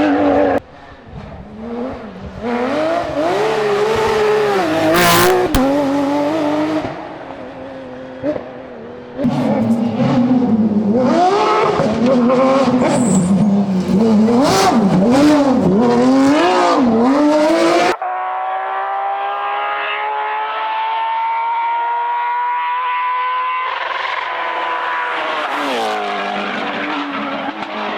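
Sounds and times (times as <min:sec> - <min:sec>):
rally car engine revving: 0:00.0 - 0:27.9.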